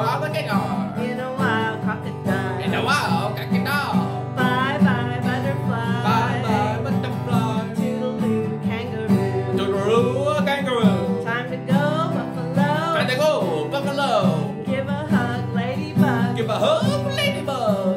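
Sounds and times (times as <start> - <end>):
acoustic guitar strumming: 0.0 - 17.9
woman singing: 0.0 - 17.9.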